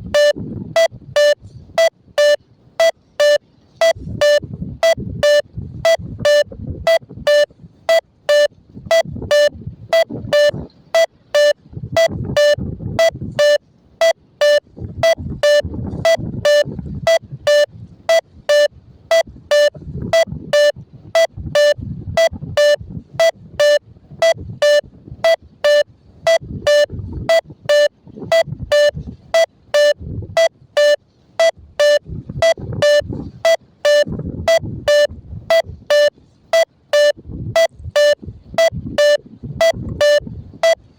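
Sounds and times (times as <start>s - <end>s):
short electronic beeps: 0.0s - 40.8s.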